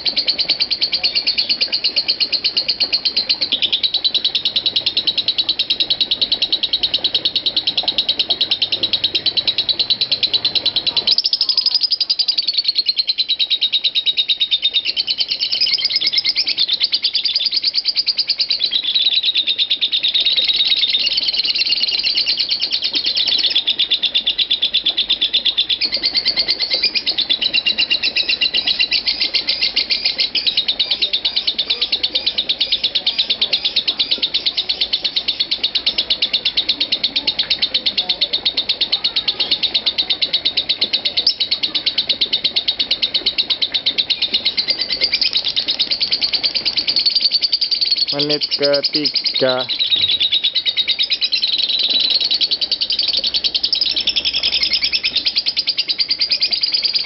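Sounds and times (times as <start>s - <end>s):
lovebird chattering trill: 0.0s - 57.0s.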